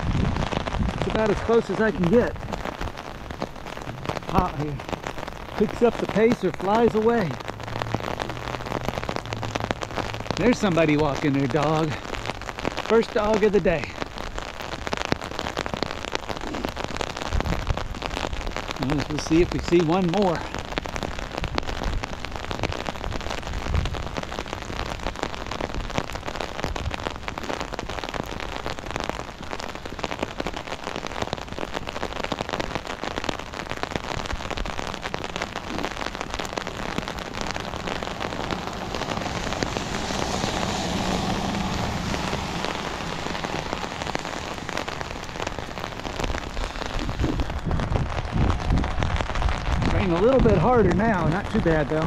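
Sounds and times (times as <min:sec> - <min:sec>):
rain on umbrella fabric: 0:00.0 - 0:52.0.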